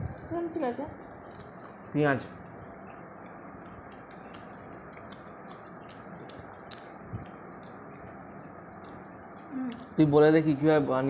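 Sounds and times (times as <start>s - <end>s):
chewing: 0.1s - 10.1s.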